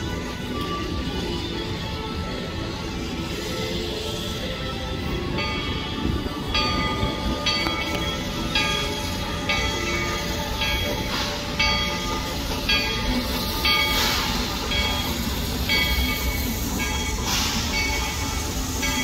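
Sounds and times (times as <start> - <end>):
locomotive bell ringing: 0.0 - 19.0
low rumble of train: 0.0 - 19.0
steam hiss: 0.0 - 19.0.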